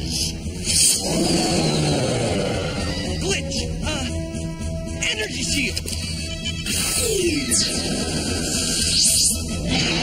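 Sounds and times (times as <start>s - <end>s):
action music: 0.0s - 10.0s.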